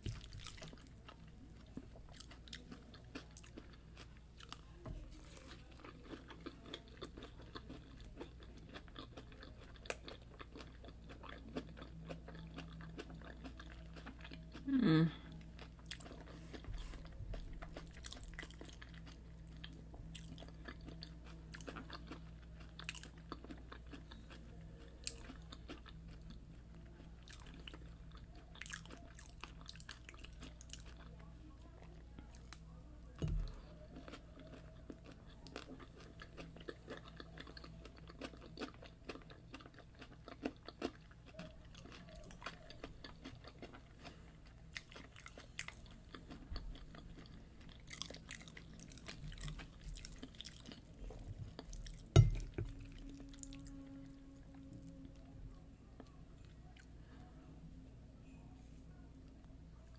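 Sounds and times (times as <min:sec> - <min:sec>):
chewing and biting food: 0:00.0 - 0:14.7, 0:15.6 - 0:31.2, 0:33.3 - 0:53.8
faint low hum: 0:00.0 - 0:59.9.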